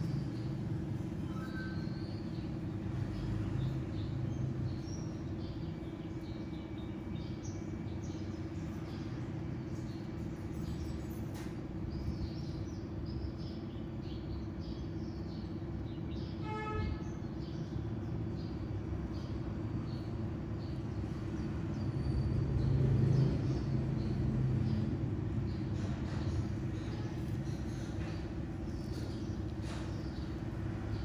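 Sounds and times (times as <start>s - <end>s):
low background hum: 0.0s - 31.0s
small birds chirping: 0.0s - 31.0s.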